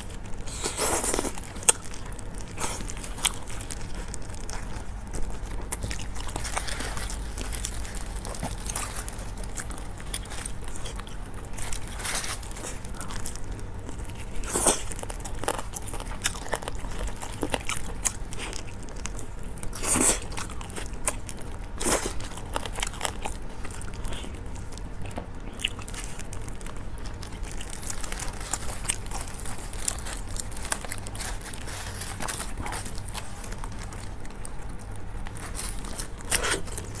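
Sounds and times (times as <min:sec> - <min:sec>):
biting and chewing: 0:00.0 - 0:37.0
steady low hum: 0:00.0 - 0:37.0.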